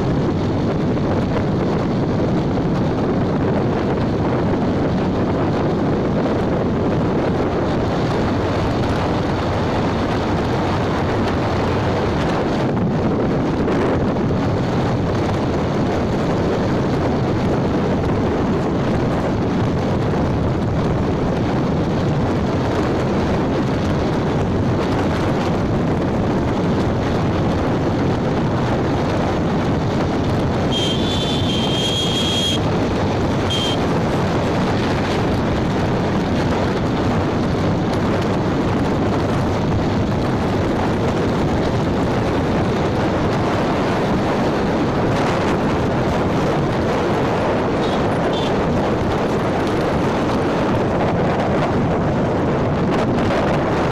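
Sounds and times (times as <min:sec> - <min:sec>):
motorbike road noise: 0:00.0 - 0:53.9
wind rushing on microphone: 0:00.0 - 0:53.9.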